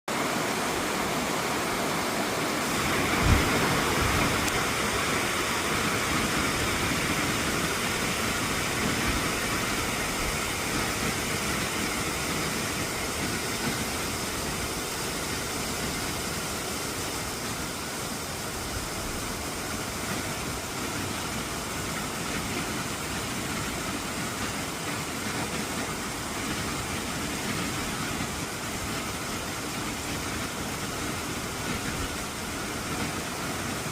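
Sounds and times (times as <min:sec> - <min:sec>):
steady rain hiss: 0:00.1 - 0:33.9.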